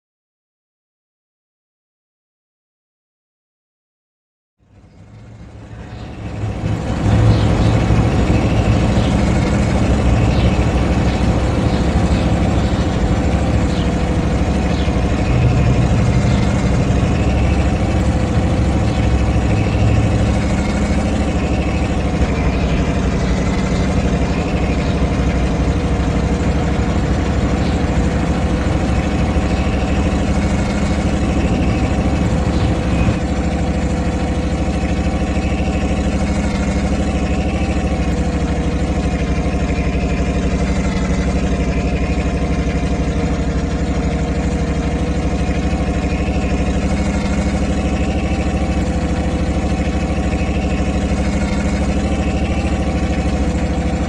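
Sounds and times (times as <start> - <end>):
diesel truck engine idling: 4.6 - 54.0.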